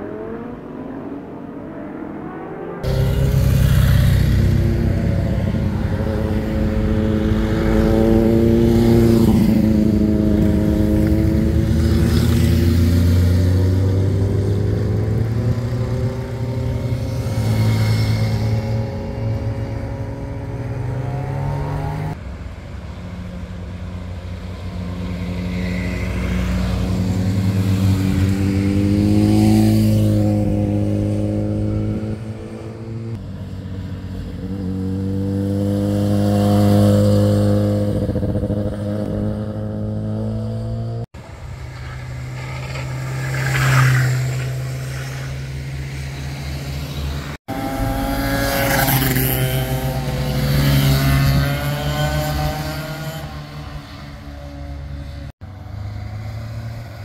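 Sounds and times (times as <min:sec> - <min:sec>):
motorcycles passing: 0:00.0 - 0:57.0.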